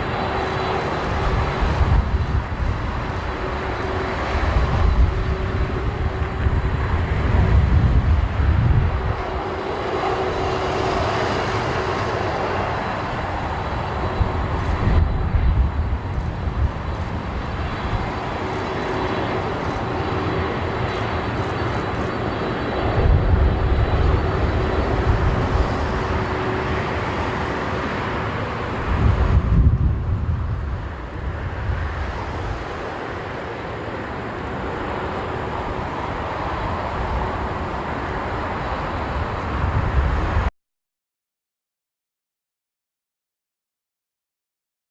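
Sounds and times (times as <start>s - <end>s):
faint jet whine: 0.0s - 40.5s
jet engines roaring: 0.0s - 40.5s.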